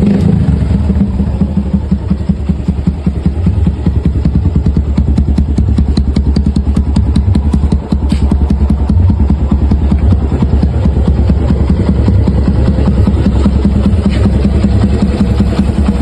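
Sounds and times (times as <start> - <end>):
motorcycle engine idling with clatter: 0.0 - 16.0.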